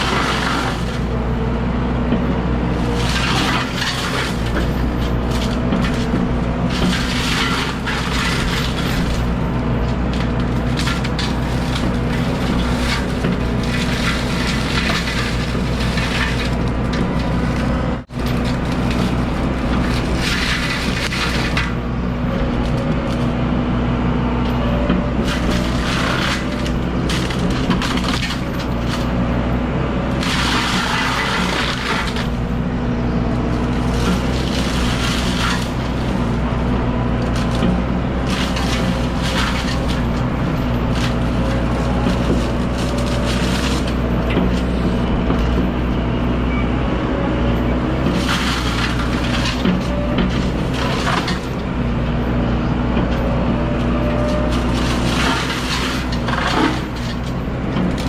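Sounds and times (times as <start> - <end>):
diesel engine under load: 0.0 - 58.0
brush and wood crunching: 2.7 - 23.8, 25.0 - 29.4, 30.0 - 45.8, 47.8 - 52.3, 53.0 - 58.0.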